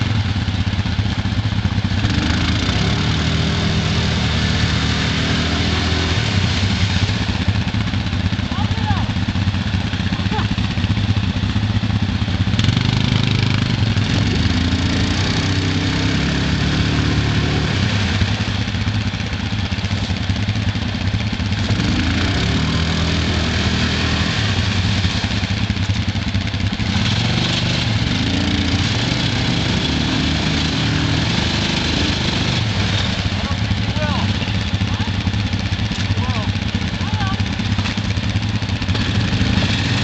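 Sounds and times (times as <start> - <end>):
atv engines idling and revving: 0.0 - 40.0.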